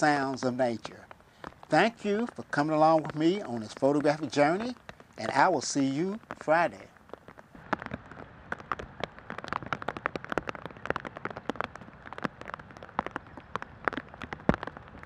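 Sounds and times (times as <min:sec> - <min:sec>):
light rain hiss: 0:00.0 - 0:15.0
rain dripping into shallow water: 0:00.0 - 0:15.0.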